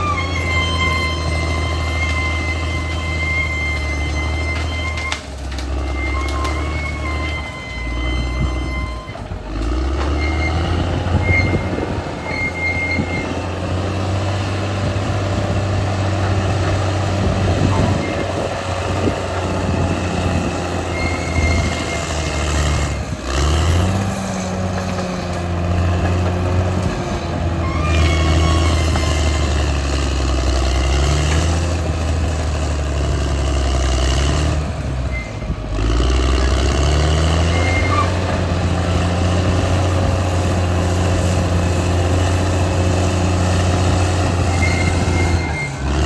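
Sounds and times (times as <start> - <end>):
bulldozer diesel engine under load: 0.0 - 46.0.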